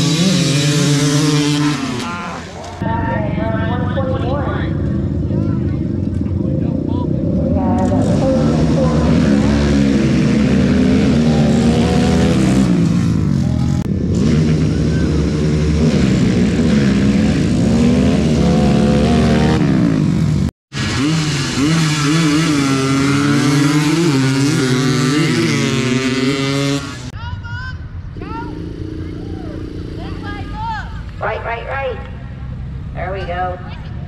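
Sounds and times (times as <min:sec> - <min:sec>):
off-road engines revving: 0:00.0 - 0:27.2, 0:28.0 - 0:34.0.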